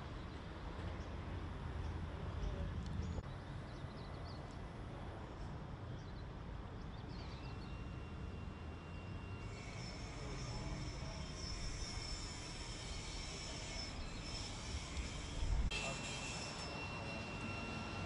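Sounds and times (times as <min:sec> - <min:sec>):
low roadside rumble: 0:00.0 - 0:18.0.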